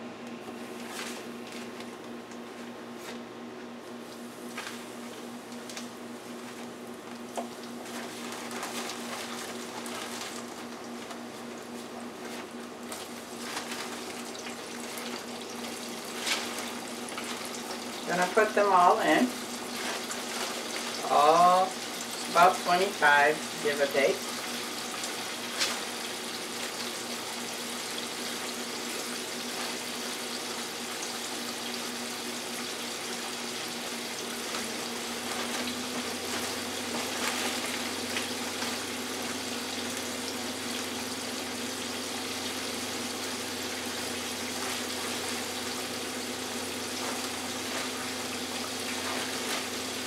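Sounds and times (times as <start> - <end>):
hot oil sizzling in fryer: 4.0 - 50.0.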